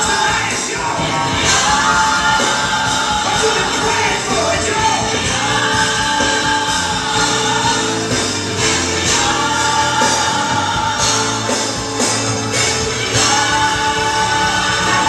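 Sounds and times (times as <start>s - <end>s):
gospel song with choir singing: 0.0s - 15.0s.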